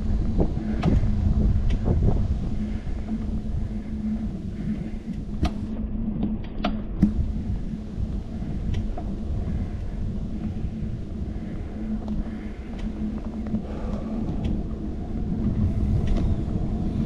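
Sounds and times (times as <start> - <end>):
bicycle riding over pavement: 0.0 - 17.0.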